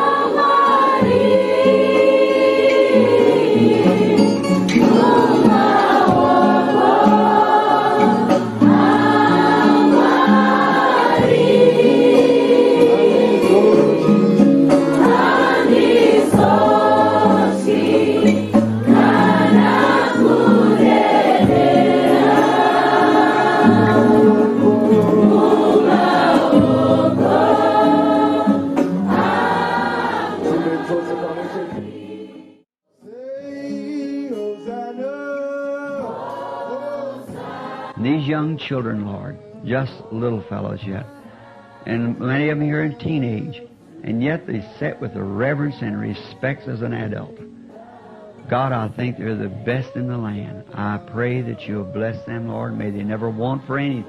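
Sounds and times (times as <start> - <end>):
group singing a hymn: 0.0 - 54.0.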